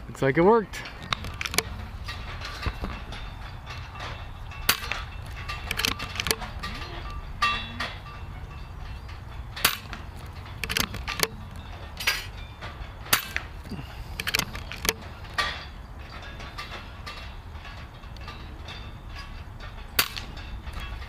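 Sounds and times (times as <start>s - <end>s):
low background rumble: 0.0s - 21.0s
air rifle clicks and clacks: 0.8s - 8.0s, 8.8s - 21.0s.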